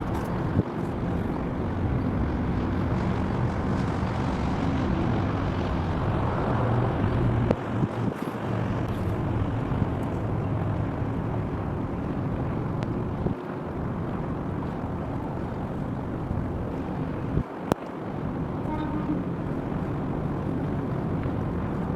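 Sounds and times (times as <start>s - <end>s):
distant heavy machinery rumble: 0.0s - 21.9s.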